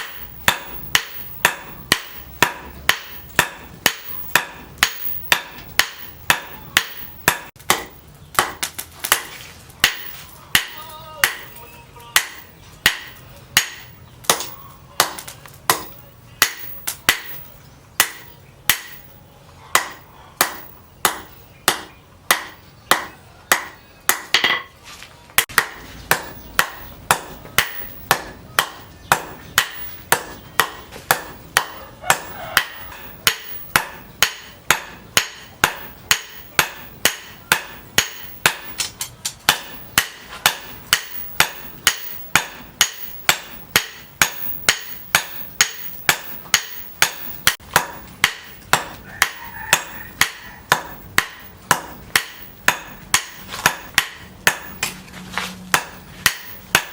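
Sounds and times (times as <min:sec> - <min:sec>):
hammer striking metal: 0:00.0 - 0:24.8, 0:25.4 - 0:56.9.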